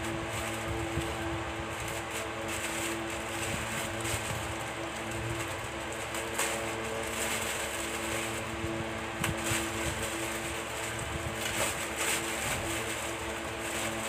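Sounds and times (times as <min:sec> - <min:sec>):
motor hum: 0:00.0 - 0:14.0
plastic packaging crinkling: 0:00.0 - 0:14.0.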